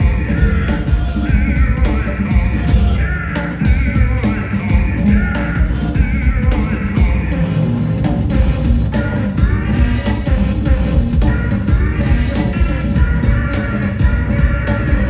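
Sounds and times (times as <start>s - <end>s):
heavy bass: 0.0s - 15.0s
person singing: 0.0s - 15.0s
rock band playing: 0.0s - 15.0s
steady drum beat: 0.0s - 15.0s.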